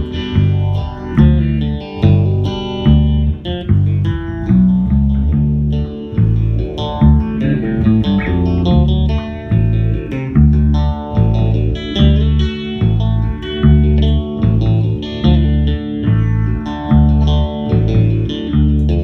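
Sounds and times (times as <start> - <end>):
electric bass guitar: 0.0 - 19.0
electric guitar: 0.0 - 19.0.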